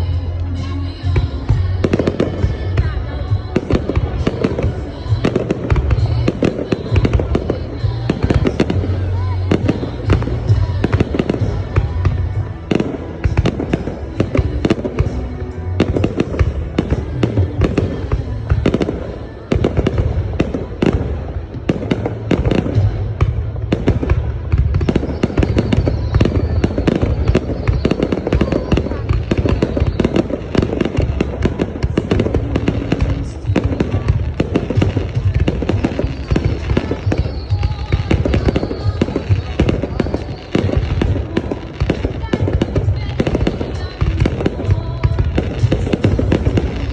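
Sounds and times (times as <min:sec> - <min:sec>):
fireworks bangs and crackles: 0:00.0 - 0:46.9
deep fireworks booming: 0:01.1 - 0:46.9.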